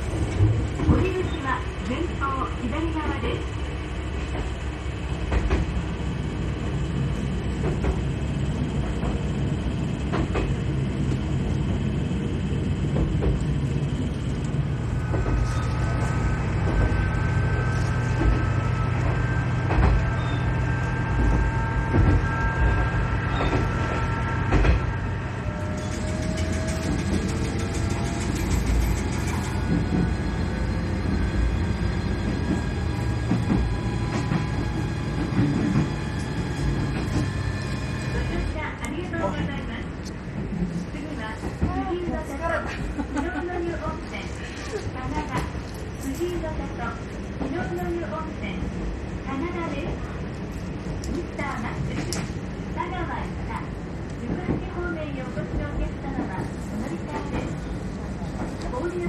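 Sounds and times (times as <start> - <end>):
diesel railcar engine drone: 0.0 - 59.0.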